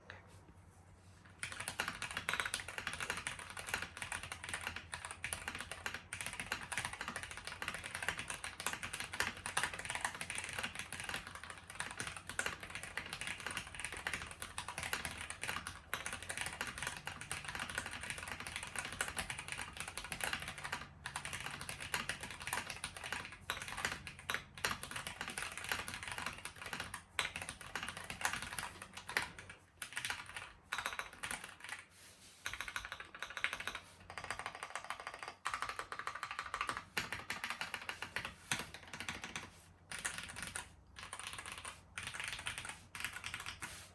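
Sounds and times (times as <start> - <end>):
fast typing on mechanical keyboard: 1.4 - 43.8.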